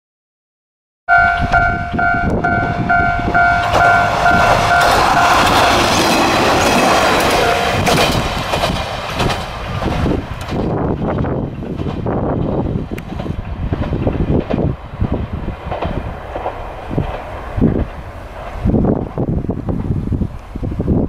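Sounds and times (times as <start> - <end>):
diesel railcar engine rumbling: 1.1 - 21.0
wheels clacking over rail joints: 1.5 - 20.6.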